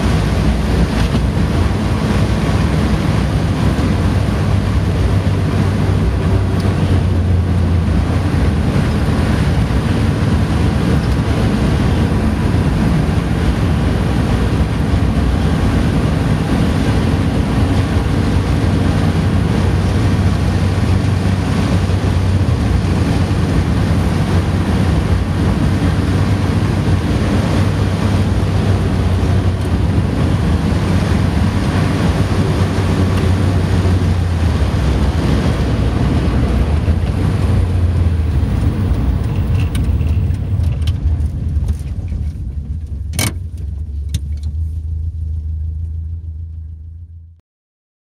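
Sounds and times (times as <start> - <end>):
tyre and wind noise: 0.0 - 46.1
low car engine drone: 0.0 - 47.4.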